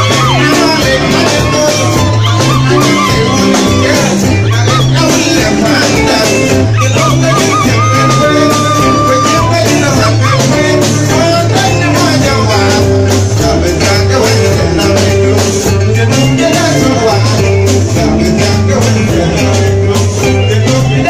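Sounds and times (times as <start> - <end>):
bass guitar: 0.0 - 21.0
drums: 0.0 - 21.0
electric guitar: 0.0 - 21.0
man singing into microphone: 0.0 - 21.0.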